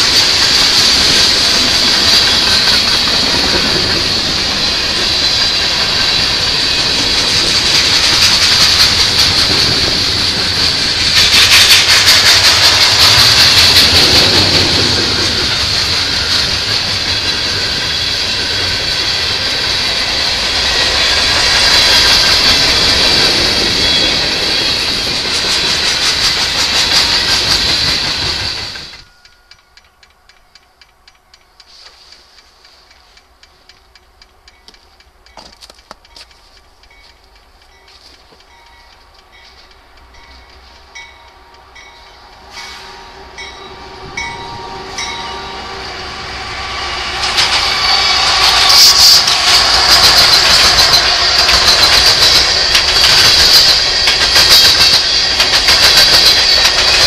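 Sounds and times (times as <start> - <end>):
wheels clacking over rail joints: 0.0 - 42.6, 47.0 - 57.0
freight train rolling by: 0.0 - 57.0
high hiss: 3.4 - 29.8, 31.5 - 34.2, 38.9 - 57.0.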